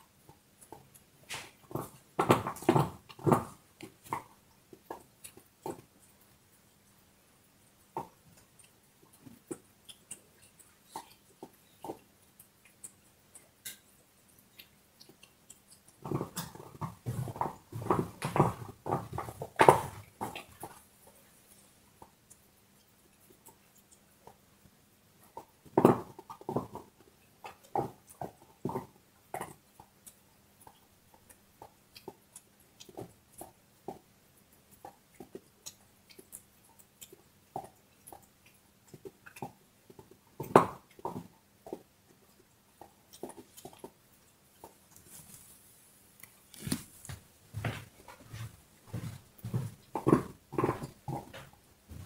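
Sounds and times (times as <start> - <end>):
dog gnawing on a bone: 0.0 - 7.0, 7.6 - 24.4, 25.1 - 45.6, 47.8 - 52.0.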